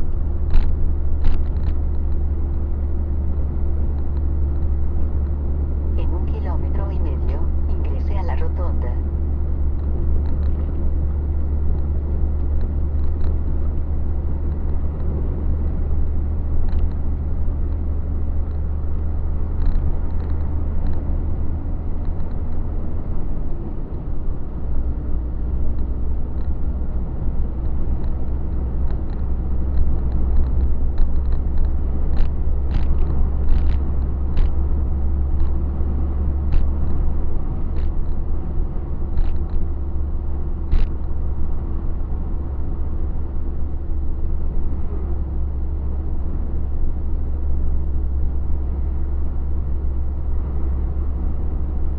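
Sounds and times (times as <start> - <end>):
road noise: 0.0 - 51.9.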